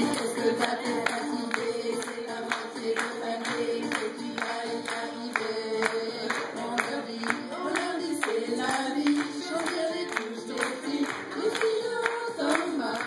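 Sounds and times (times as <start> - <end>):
backing music: 0.0 - 13.0
women singing together: 0.0 - 13.0.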